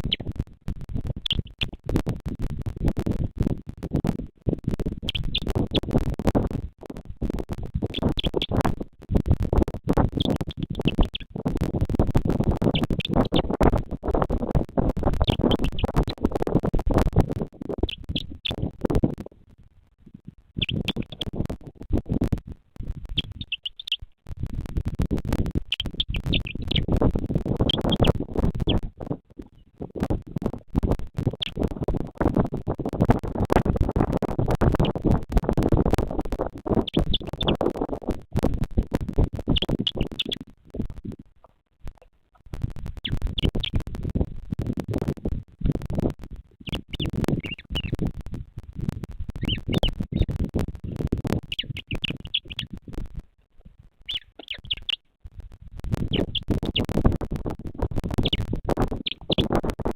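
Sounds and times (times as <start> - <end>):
wind buffeting microphone: 0.0 - 19.3, 20.1 - 23.6, 24.3 - 41.3, 42.5 - 53.2, 54.0 - 59.9.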